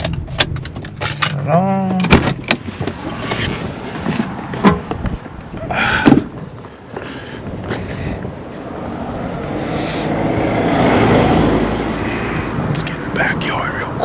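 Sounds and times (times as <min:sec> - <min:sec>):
road vehicle passing: 0:02.6 - 0:14.0.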